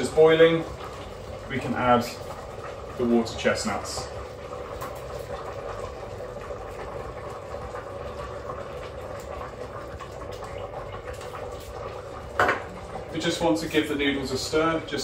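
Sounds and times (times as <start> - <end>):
broth boiling in a pot: 0.0 - 15.0.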